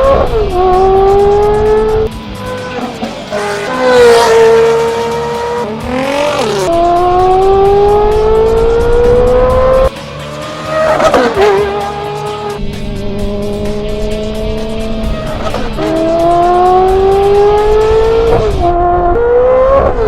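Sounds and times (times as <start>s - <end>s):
sports car engine revving: 0.0s - 20.0s.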